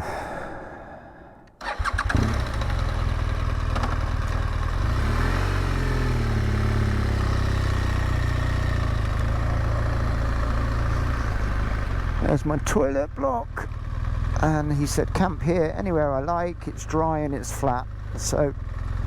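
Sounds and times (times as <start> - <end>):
motorcycle engine running: 1.6 - 19.0.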